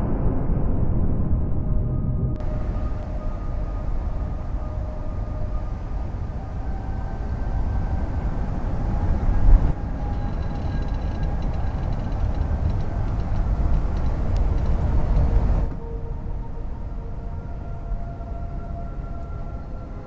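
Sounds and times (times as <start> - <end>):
train rumbling over steel bridge: 1.6 - 20.0.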